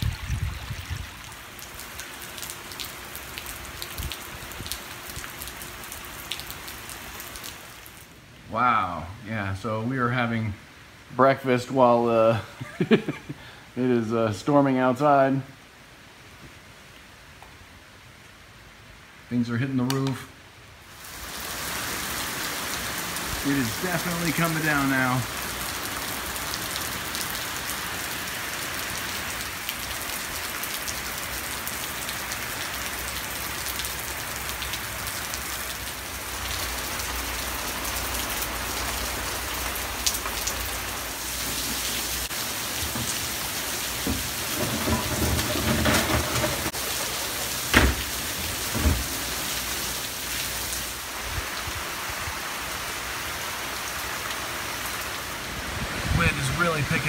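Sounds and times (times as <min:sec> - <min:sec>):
heavy rain pouring: 0:00.0 - 0:16.3, 0:18.0 - 0:57.0.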